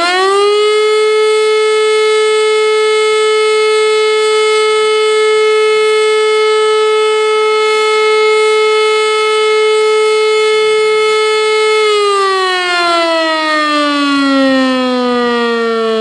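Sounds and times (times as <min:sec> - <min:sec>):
motor siren howl: 0:00.0 - 0:16.0.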